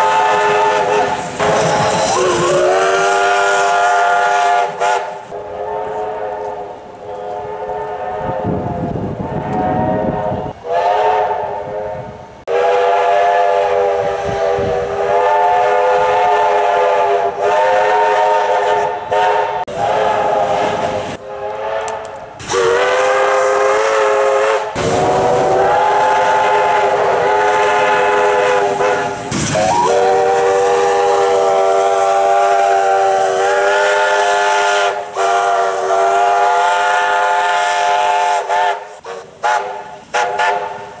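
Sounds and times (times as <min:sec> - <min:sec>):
steam locomotive chime whistle: 0:00.0 - 0:41.0.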